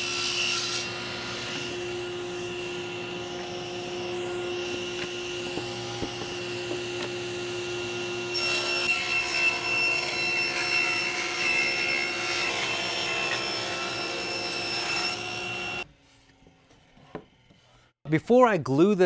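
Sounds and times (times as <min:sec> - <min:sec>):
table saw motor humming: 0:00.0 - 0:15.8
saw cutting wood: 0:00.0 - 0:15.9.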